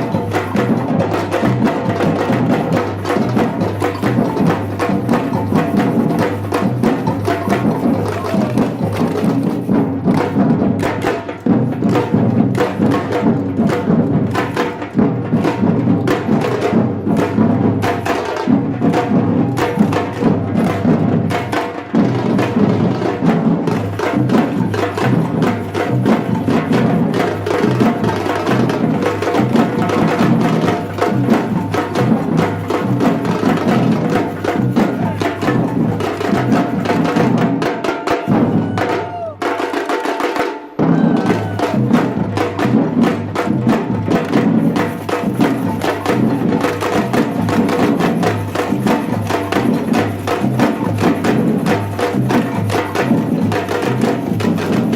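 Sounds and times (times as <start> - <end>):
samba drum group playing: 0.0 - 54.9.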